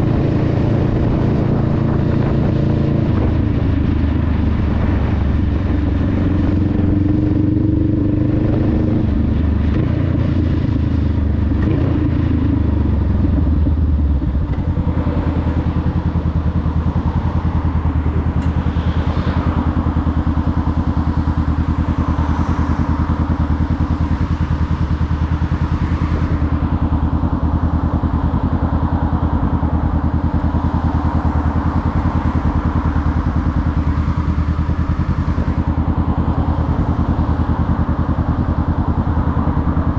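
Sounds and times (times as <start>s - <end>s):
motorcycle engine running and idling: 0.0s - 39.9s.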